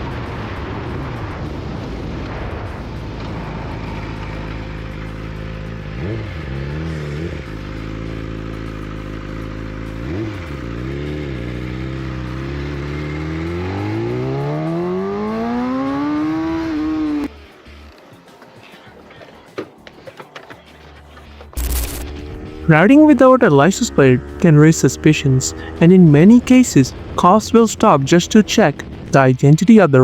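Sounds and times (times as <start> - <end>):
motorcycle engine revving: 0.2 - 17.3, 21.6 - 29.3.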